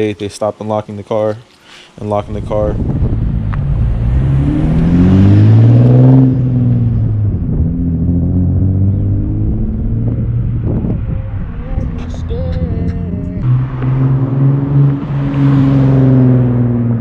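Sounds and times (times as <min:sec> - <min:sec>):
car engine revving and idling: 0:02.2 - 0:17.0.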